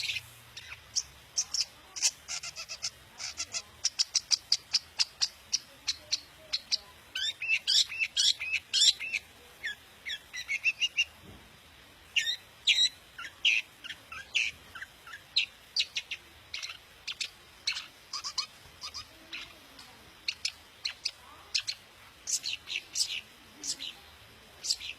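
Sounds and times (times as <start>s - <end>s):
bird singing chirps and chatter: 0.0s - 11.2s, 12.1s - 24.9s.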